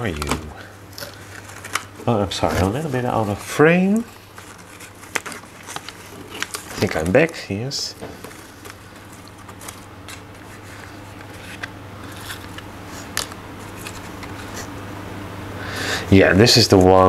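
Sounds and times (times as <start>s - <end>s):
paper rustling and crackling: 0.0s - 14.7s, 16.3s - 17.0s.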